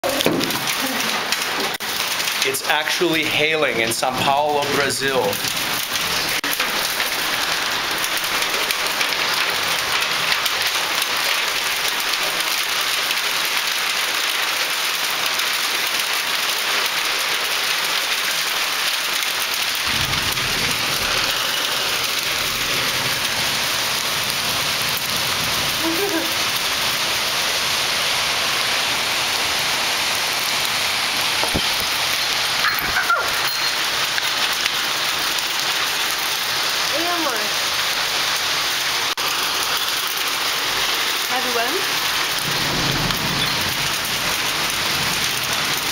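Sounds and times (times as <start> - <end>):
hail and heavy rain falling: 0.0 - 45.9.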